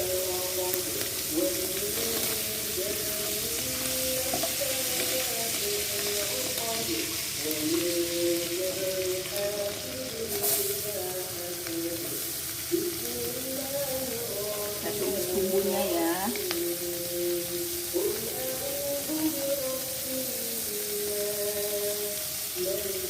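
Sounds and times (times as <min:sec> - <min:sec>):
background music melody: 0:00.0 - 0:23.0
food sizzling in hot oil: 0:00.0 - 0:23.0.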